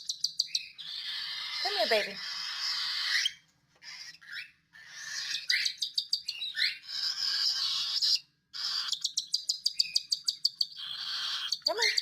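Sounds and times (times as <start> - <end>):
baby birds raspy begging calls: 0.0 - 12.0.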